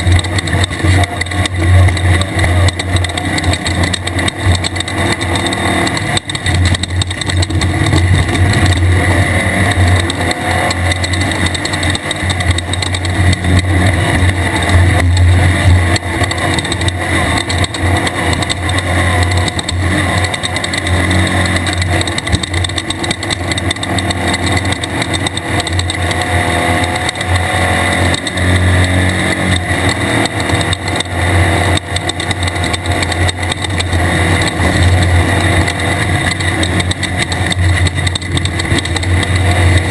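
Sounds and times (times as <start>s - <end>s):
race car engine running hard: 0.0s - 39.9s
rattles and knocks: 0.0s - 39.9s.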